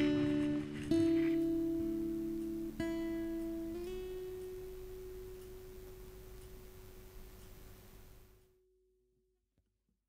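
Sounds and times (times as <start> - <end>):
acoustic guitar music: 0.0 - 8.9.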